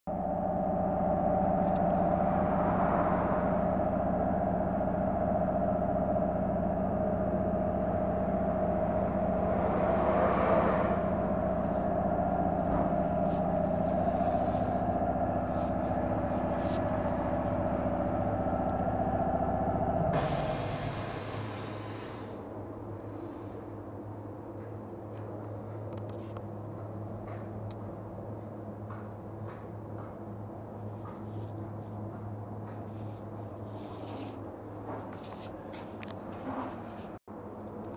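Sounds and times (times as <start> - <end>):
tyre and road drone: 0.1 - 37.9.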